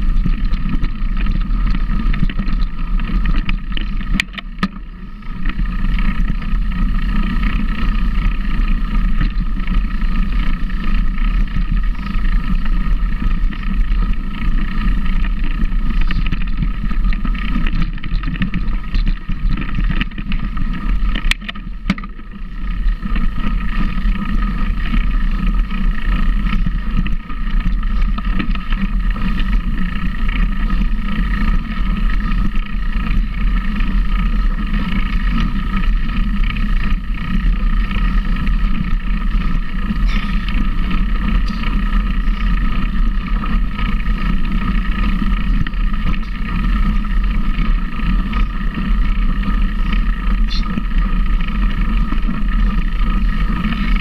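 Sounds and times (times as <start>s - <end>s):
vehicle rumble: 0.0s - 54.0s.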